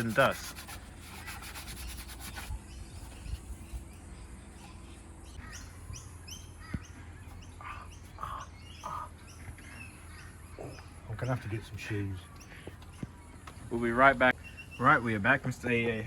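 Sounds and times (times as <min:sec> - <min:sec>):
bird chirping: 0:01.1 - 0:16.0.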